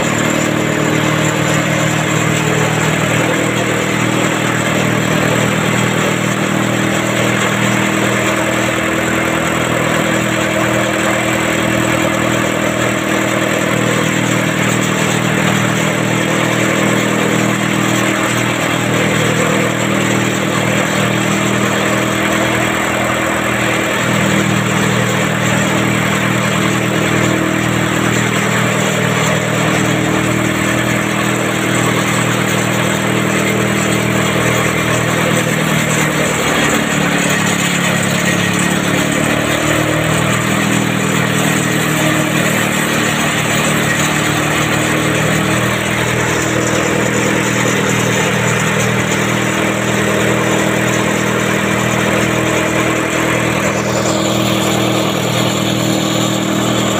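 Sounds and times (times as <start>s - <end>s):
engine drone: 0.0s - 56.9s.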